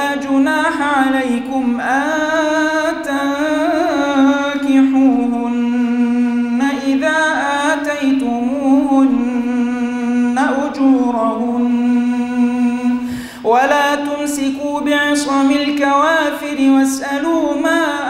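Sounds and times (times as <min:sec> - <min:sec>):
man chanting melodic recitation: 0:00.0 - 0:18.0.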